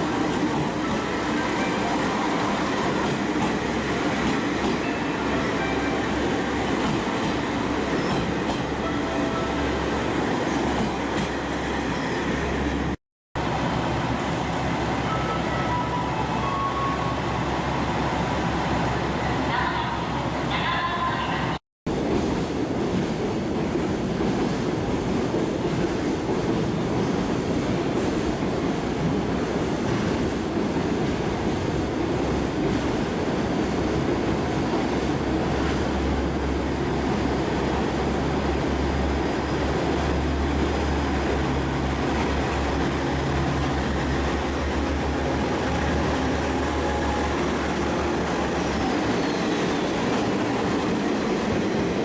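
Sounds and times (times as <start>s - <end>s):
diesel railcar engine rumble: 0.0s - 22.7s, 24.0s - 52.0s.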